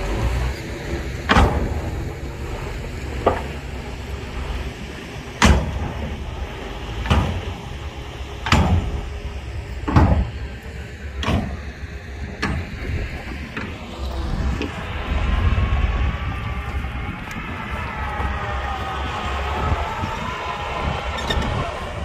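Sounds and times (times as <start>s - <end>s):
diesel machinery rumbling: 0.0s - 22.0s.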